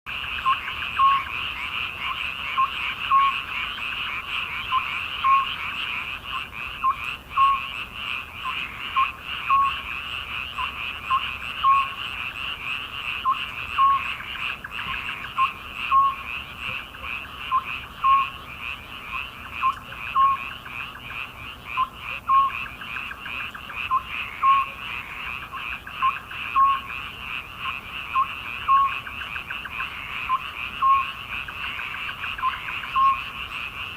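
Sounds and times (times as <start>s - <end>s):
frog croaking: 0.1s - 33.9s
frogs trilling chorus: 0.1s - 33.9s.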